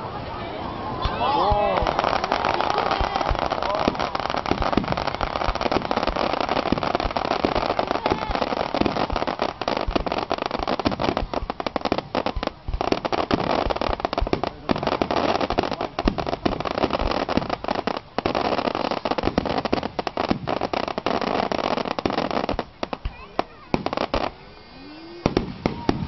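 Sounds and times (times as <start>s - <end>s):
fireworks bursting and crackling: 1.0s - 26.0s.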